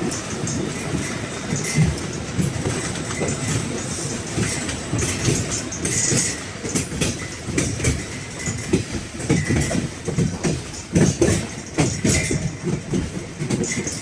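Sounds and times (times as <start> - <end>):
train cars rattling: 0.0 - 14.0
train wheels clacking: 0.0 - 14.0.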